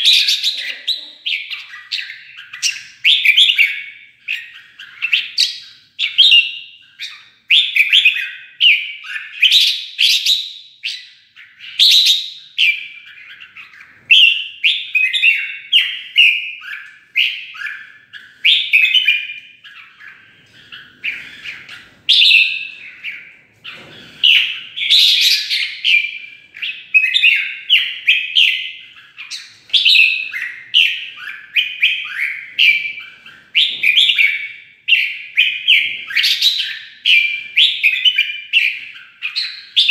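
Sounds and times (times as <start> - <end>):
bird singing warbled whistles: 0.0 - 23.3, 24.0 - 39.9.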